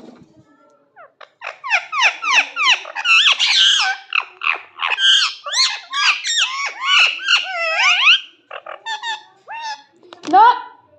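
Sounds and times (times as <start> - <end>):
parrot chirps and squawks: 1.0 - 9.9.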